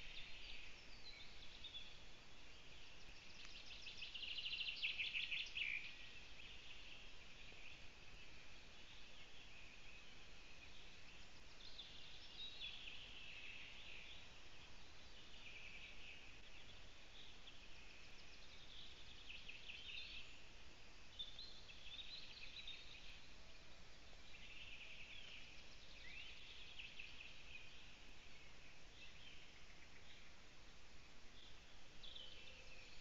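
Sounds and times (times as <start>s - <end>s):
soft background hiss: 0.0s - 33.0s
songbirds singing: 0.0s - 33.0s.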